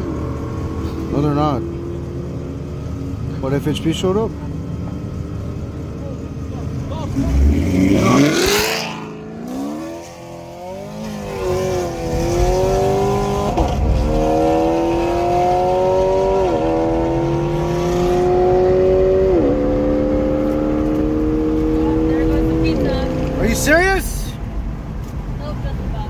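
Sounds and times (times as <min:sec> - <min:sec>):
car engine accelerating: 0:00.0 - 0:24.1.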